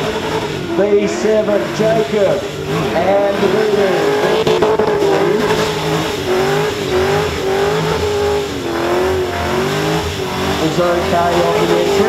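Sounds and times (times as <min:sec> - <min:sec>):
engine revving high: 0:00.0 - 0:12.0.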